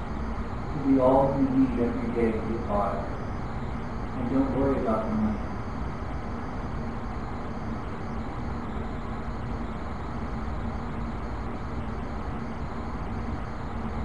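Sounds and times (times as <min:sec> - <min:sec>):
faint steady hum: 0:00.0 - 0:14.0
low room rumble and hiss: 0:00.0 - 0:14.0.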